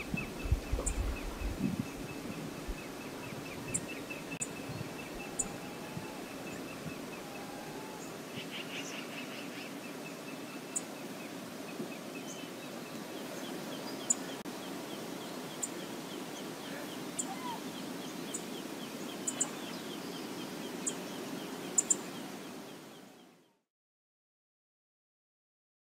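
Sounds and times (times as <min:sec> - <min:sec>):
river water rushing: 0:00.0 - 0:23.2.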